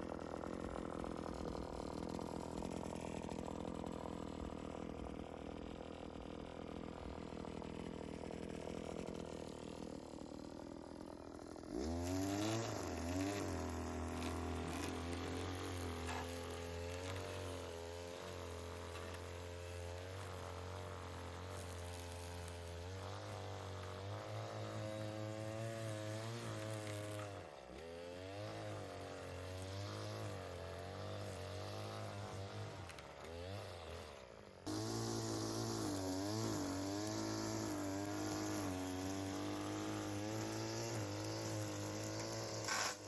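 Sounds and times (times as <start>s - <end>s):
small petrol engine running: 0.0s - 43.0s.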